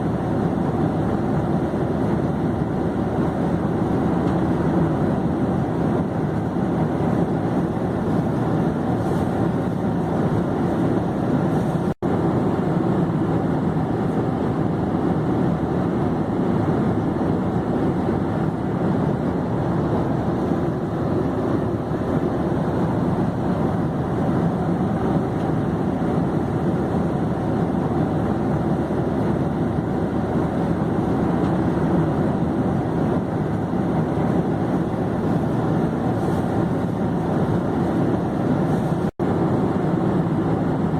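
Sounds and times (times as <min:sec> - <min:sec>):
airplane engine and air rush: 0:00.0 - 0:40.9.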